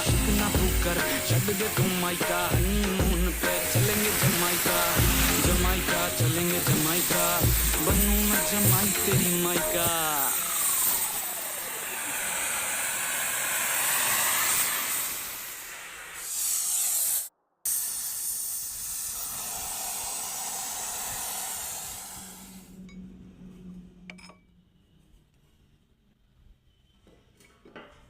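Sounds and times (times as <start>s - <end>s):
loud hissing noise: 0.0s - 22.8s.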